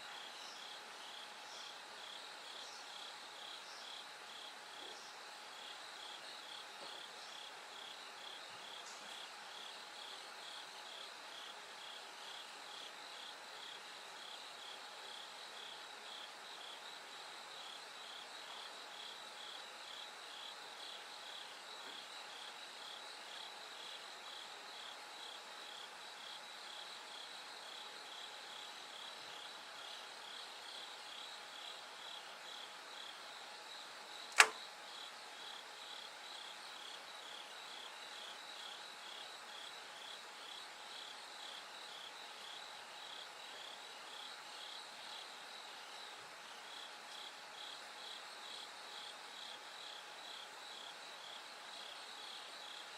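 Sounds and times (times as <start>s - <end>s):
crickets ringing chirps: 0.0s - 52.9s.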